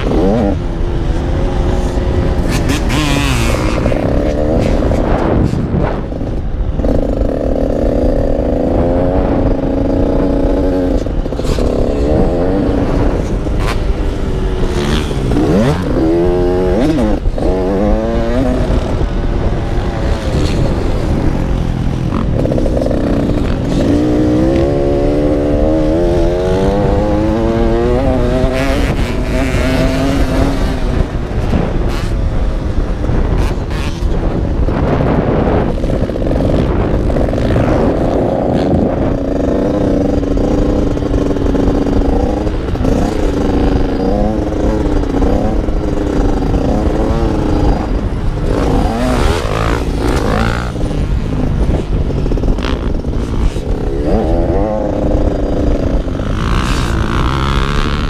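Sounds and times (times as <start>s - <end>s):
low rumble of wind: 0.0s - 58.0s
motocross bike engine revving: 0.0s - 58.0s.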